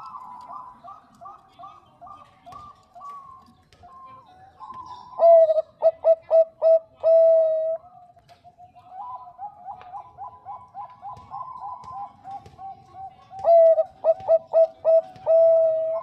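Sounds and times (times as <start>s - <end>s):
dove cooing: 0.0s - 7.9s, 8.6s - 16.0s.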